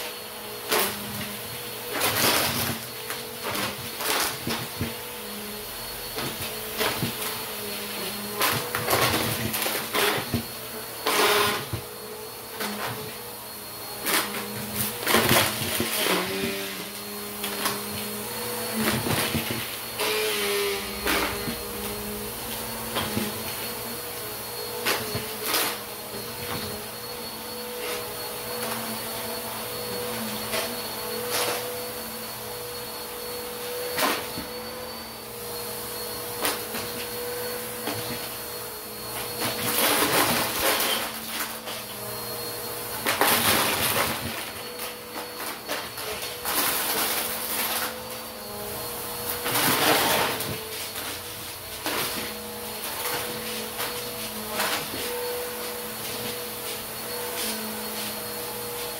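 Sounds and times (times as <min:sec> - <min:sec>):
vacuum cleaner motor: 0:00.0 - 0:58.9.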